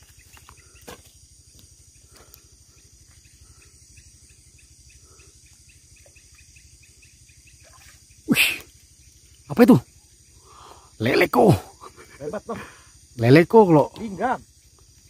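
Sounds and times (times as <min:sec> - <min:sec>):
constant high insect buzz: 0:00.0 - 0:15.0
crickets chirping: 0:00.0 - 0:15.0.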